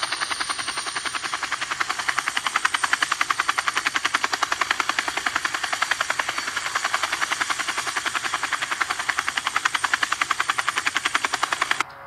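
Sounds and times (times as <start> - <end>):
helicopter rotor chopping: 0.0 - 11.9.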